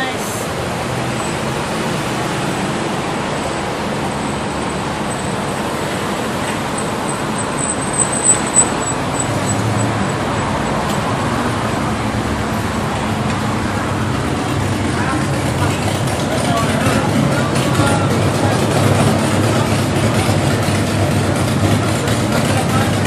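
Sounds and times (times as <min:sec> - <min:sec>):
cars driving past: 0:00.0 - 0:23.0.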